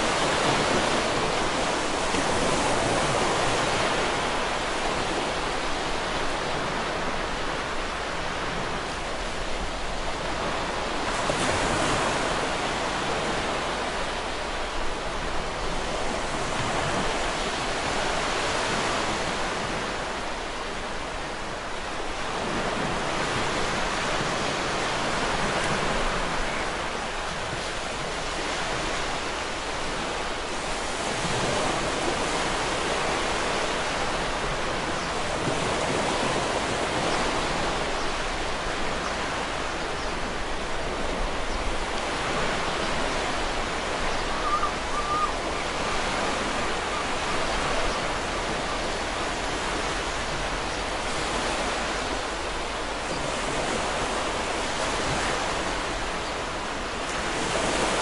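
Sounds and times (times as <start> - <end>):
sea waves surging: 0.0 - 58.0.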